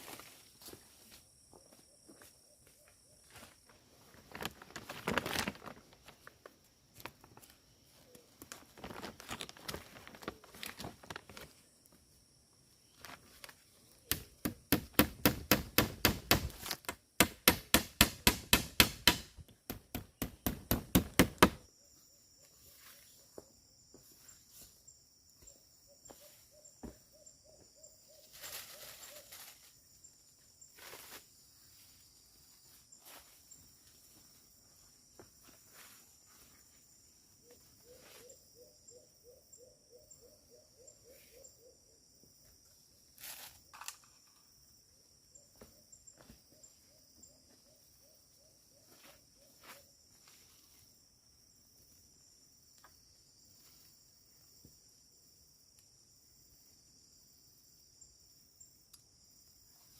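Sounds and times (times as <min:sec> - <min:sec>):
high-pitched insect calls: 0:11.4 - 0:59.9.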